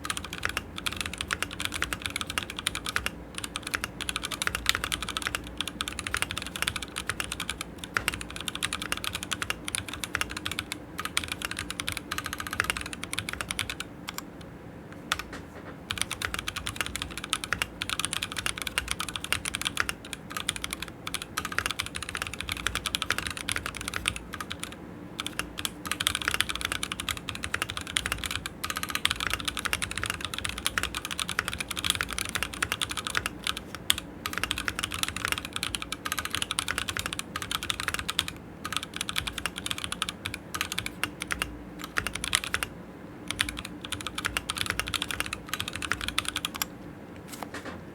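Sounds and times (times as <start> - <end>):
typing on mechanical keyboard: 0.0 - 14.4, 15.0 - 42.7, 43.3 - 46.7.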